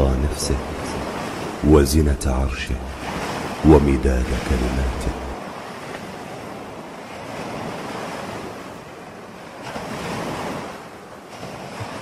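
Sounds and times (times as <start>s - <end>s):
waves breaking on sandy beach: 0.0s - 12.0s.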